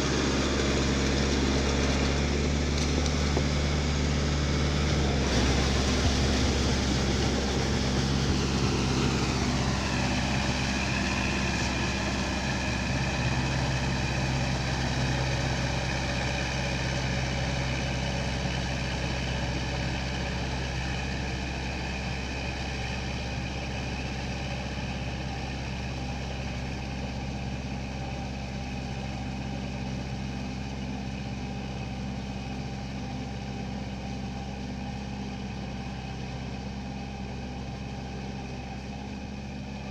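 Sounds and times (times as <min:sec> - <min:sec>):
high engine whine: 0:00.0 - 0:39.9
tractor engine running: 0:00.0 - 0:39.9.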